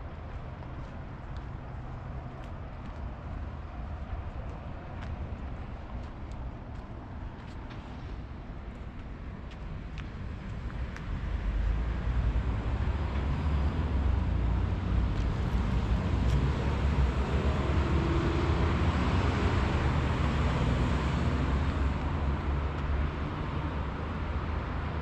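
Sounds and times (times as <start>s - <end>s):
vehicle passing on road: 0.0s - 25.0s.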